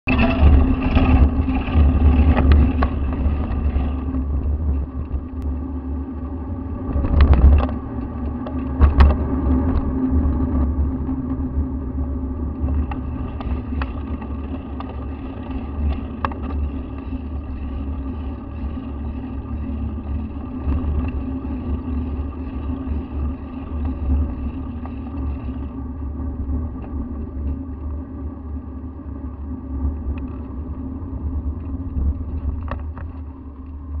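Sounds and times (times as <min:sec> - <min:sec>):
constant hum: 0:00.0 - 0:34.0
wind and road rumble: 0:00.0 - 0:34.0.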